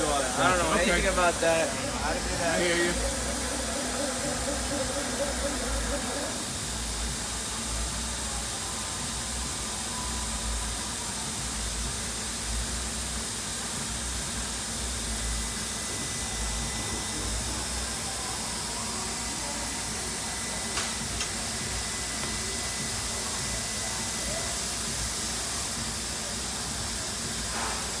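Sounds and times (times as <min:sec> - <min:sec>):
cnc router hiss and whine: 0:00.0 - 0:28.0.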